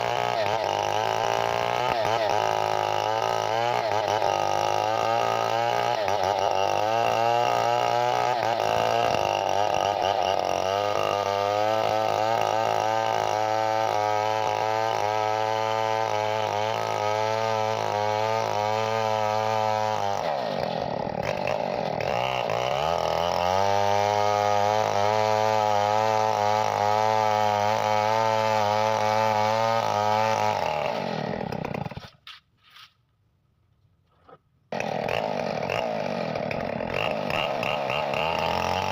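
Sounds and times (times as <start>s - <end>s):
chainsaw engine revving: 0.0s - 32.2s, 34.7s - 38.9s.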